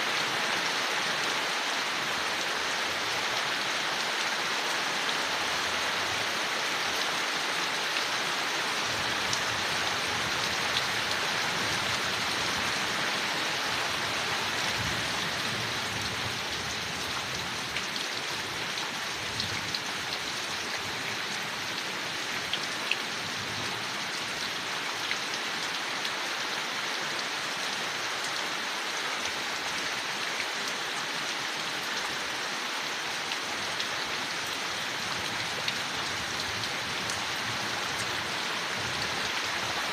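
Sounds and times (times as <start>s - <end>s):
loud raindrops: 0.0s - 39.9s
rain falling on leaves: 0.0s - 39.9s.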